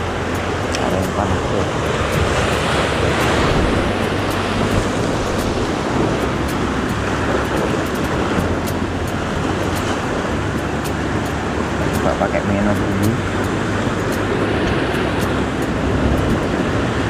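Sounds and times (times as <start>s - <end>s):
sea waves washing over rocks: 0.0s - 17.0s
wind buffeting microphone: 0.0s - 17.0s.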